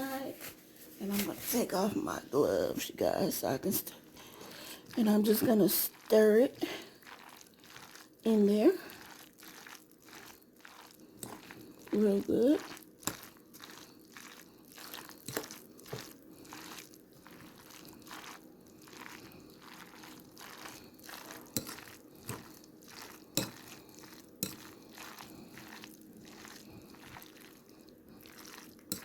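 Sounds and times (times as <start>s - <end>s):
wet crunching of salad being stirred: 4.3s - 29.0s.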